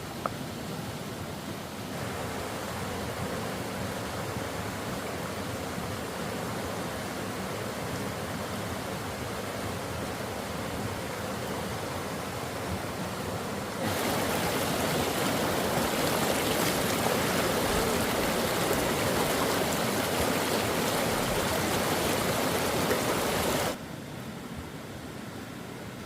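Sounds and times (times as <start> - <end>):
running water rushing: 0.0 - 23.8.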